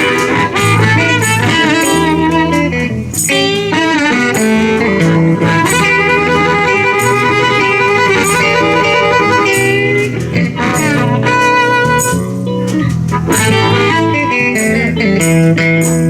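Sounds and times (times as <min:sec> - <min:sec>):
steady drum beat: 0:00.0 - 0:15.6
blues band playing: 0:00.0 - 0:16.0
electric guitar: 0:00.0 - 0:16.0.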